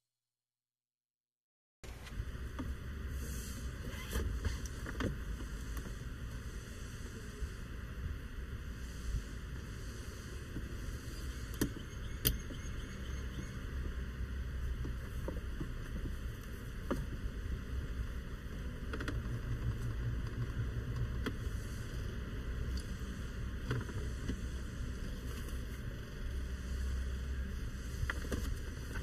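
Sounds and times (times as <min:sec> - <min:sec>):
car cabin rumble: 0:01.8 - 0:29.0.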